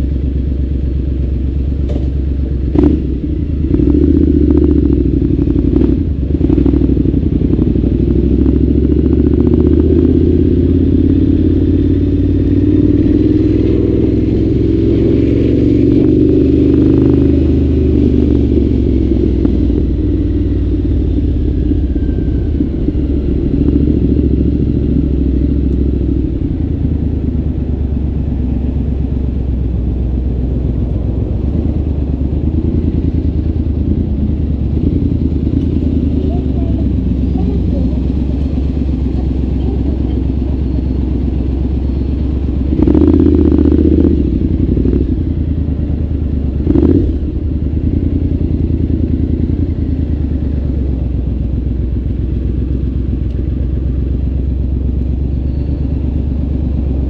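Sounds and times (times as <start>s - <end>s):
motorcycle engine riding: 0.0s - 57.0s.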